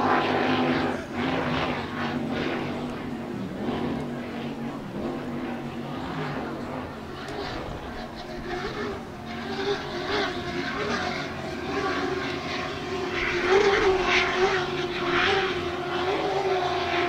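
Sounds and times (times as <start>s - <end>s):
distant high-revving engine drone: 0.0s - 17.0s.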